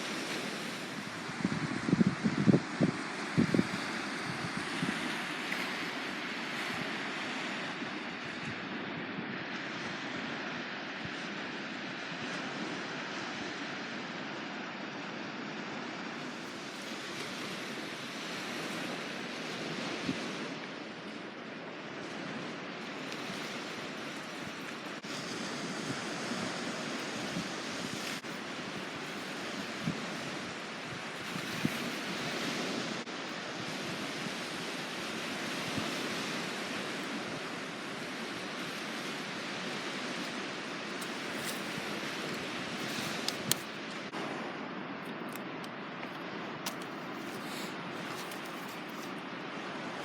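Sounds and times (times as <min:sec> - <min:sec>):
sea surf washing on shore: 0:00.0 - 0:50.0.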